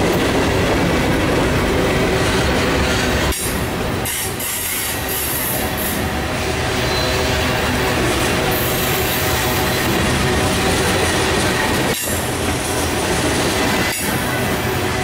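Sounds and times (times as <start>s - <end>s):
freight train rumbling and clattering: 0.0s - 15.0s.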